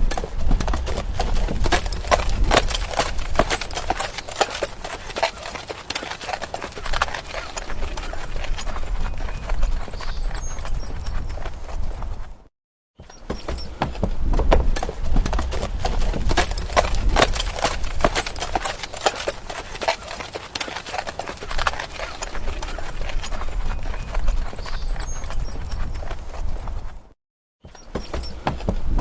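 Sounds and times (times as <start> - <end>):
horse hooves clip-clopping: 0.0 - 27.1, 27.7 - 29.0.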